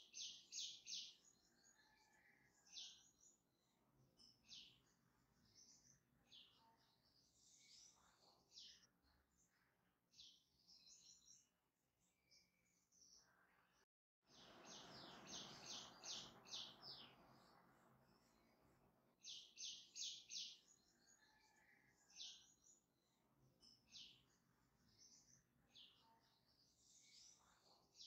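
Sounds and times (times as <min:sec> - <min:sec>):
faint high bird chirps: 0:00.0 - 0:28.0.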